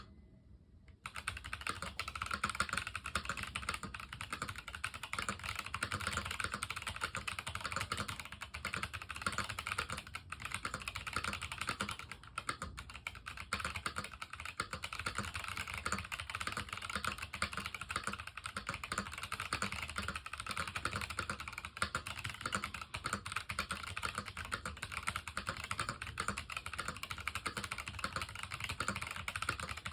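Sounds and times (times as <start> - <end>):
fast typing on mechanical keyboard: 1.0 - 29.9.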